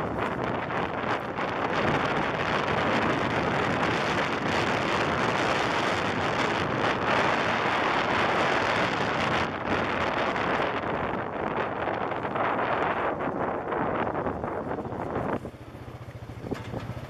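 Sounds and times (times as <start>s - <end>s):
vehicle engine: 0.0s - 17.0s
wind rushing over microphone: 0.0s - 17.0s.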